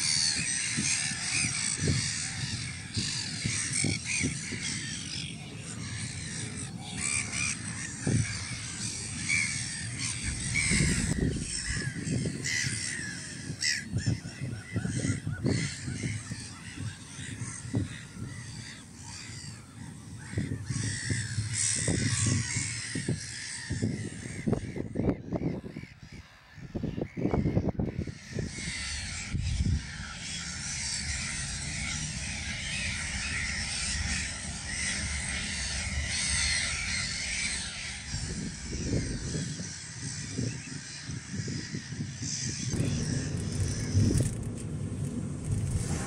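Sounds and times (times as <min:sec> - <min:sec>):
low rumble: 0:00.0 - 0:25.3, 0:27.6 - 0:40.6, 0:41.2 - 0:46.0
gulls calling: 0:00.0 - 0:46.0.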